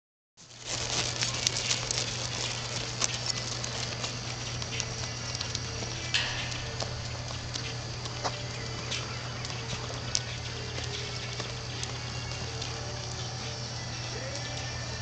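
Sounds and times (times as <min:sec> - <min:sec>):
horse hoofbeats on dirt: 0:00.4 - 0:15.0
low hum and hiss: 0:01.7 - 0:15.0.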